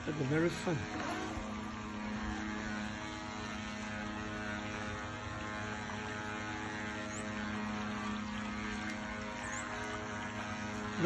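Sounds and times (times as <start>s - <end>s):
small electric motor humming: 0.0s - 11.0s.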